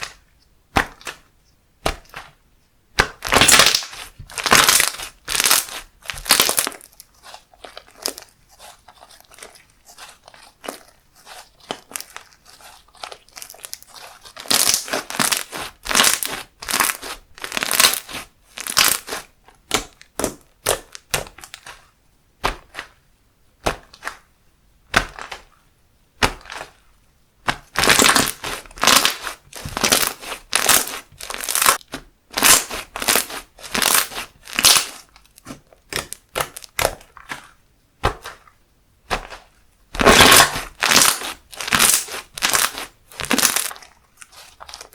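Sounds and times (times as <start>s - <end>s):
slime squished by hand: 3.0s - 23.0s, 24.9s - 25.6s, 27.4s - 44.9s.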